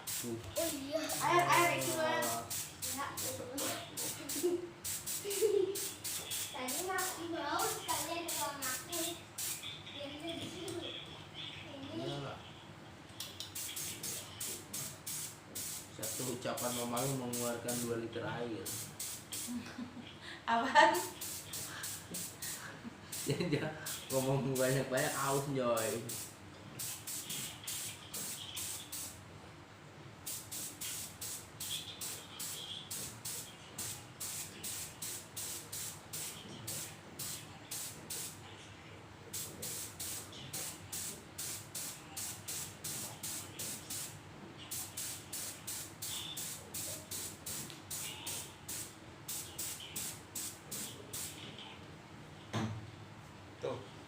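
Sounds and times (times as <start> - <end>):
spray paint hissing in spurts: 0.0 - 10.0, 13.2 - 18.0, 18.6 - 19.6, 21.0 - 29.2, 30.2 - 38.4, 39.3 - 51.5.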